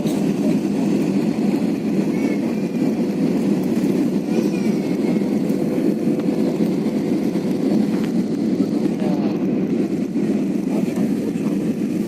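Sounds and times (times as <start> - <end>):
constant hum: 0.0 - 12.0
moving vehicle rumble: 0.0 - 12.0.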